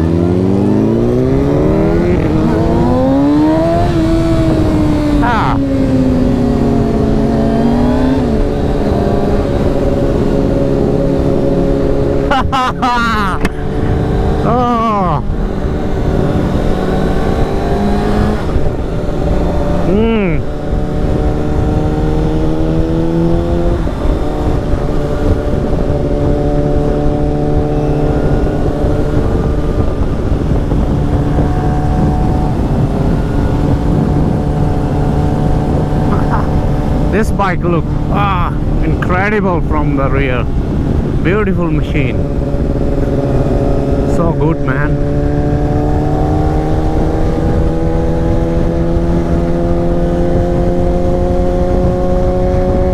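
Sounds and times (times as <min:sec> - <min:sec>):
motorcycle engine running: 0:00.0 - 0:52.9
wind rush: 0:00.0 - 0:52.9.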